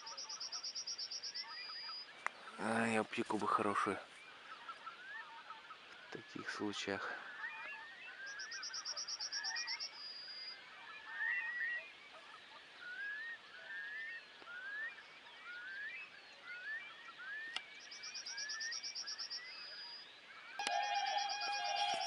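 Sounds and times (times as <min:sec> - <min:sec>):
distant geese and swans calling: 0:00.0 - 0:22.0.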